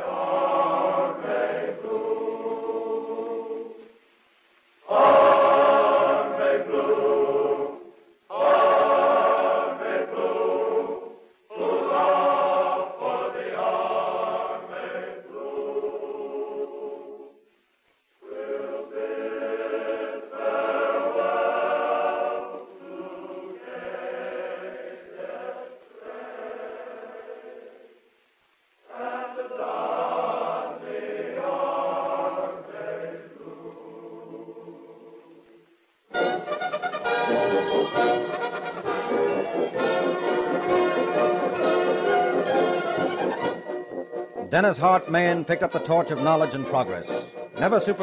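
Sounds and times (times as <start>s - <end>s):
choir singing: 0.0s - 4.0s, 4.8s - 17.5s, 18.2s - 28.0s, 28.8s - 48.0s.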